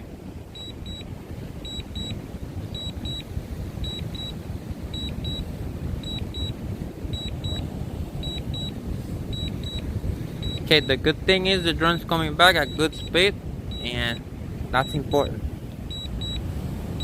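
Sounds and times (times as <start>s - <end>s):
wind rumble on microphone: 0.0s - 17.0s
remote controller warning beeps: 0.6s - 14.2s, 14.8s - 15.3s, 15.9s - 16.4s.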